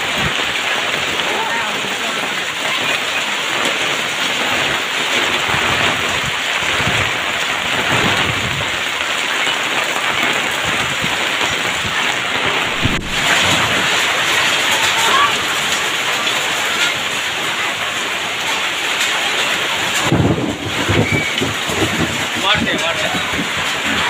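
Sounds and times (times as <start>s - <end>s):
heavy rain and hail: 0.0s - 24.0s.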